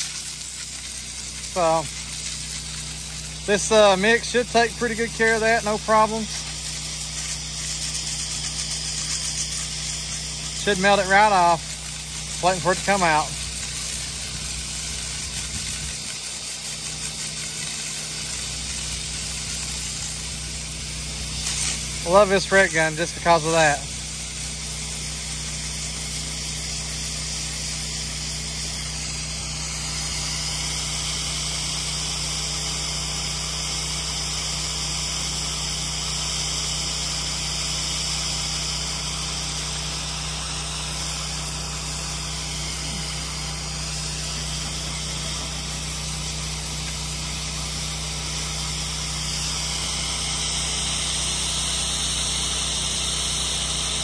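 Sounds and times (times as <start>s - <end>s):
hiss of water spray: 0.0s - 32.1s, 38.5s - 52.2s
pressure washer pump running: 0.0s - 54.0s.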